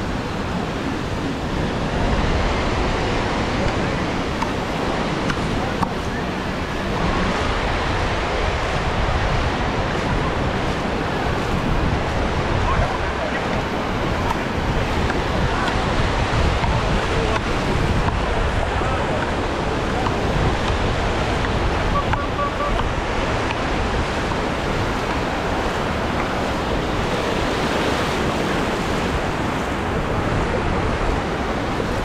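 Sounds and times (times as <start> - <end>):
waves washing onto beach: 0.0 - 32.0
wind buffeting microphone: 0.0 - 32.0.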